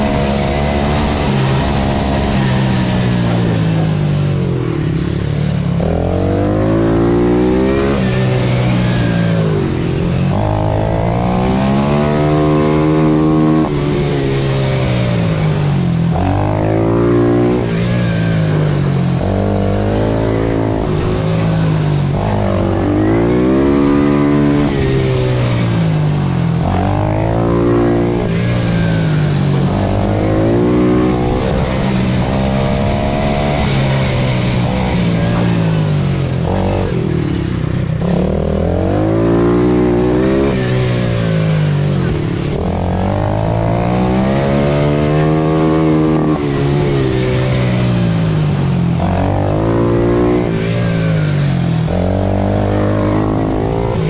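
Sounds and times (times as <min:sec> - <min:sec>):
pit bike engine revving: 0:00.0 - 0:54.0.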